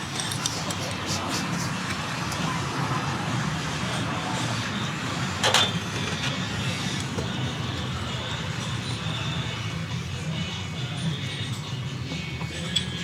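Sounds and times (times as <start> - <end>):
road traffic hum: 0.0 - 12.4.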